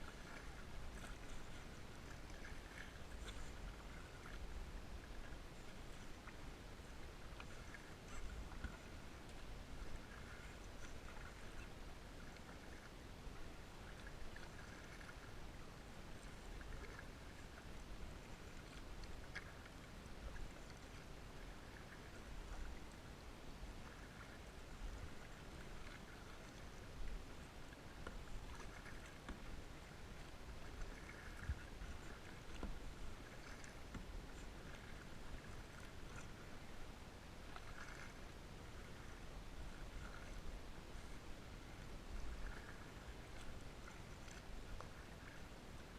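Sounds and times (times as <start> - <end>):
paddle splashes and drips: 0.0 - 45.9.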